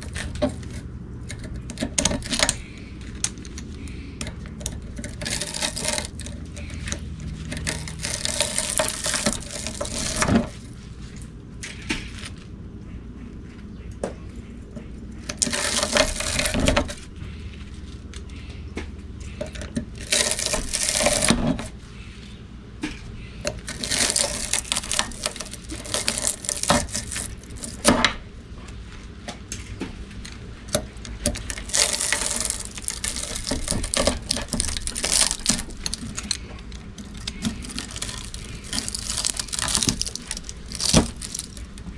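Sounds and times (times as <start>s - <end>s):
wire scraping on metal: 0.0s - 12.4s, 15.2s - 18.5s, 19.2s - 21.8s, 23.4s - 28.1s, 30.2s - 41.9s.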